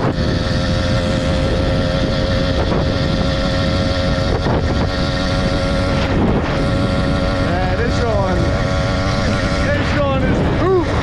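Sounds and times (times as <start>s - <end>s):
small motorbike engine droning: 0.0s - 11.0s
wind rumble on microphone: 0.0s - 11.0s.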